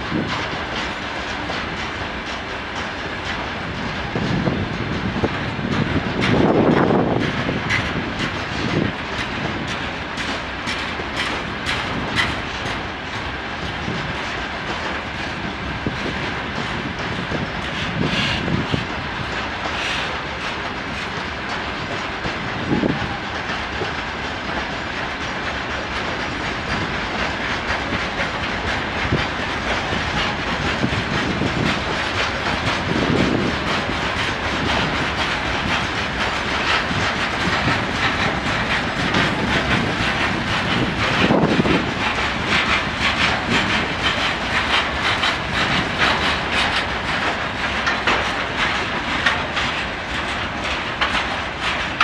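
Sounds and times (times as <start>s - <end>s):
train wheels clacking over rail joints: 0.0s - 52.0s.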